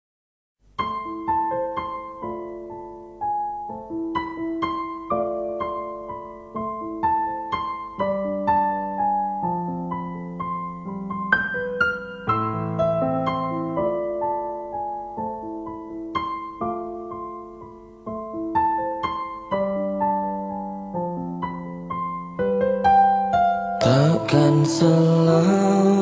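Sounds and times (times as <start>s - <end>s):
solo piano melody: 0.6s - 26.0s.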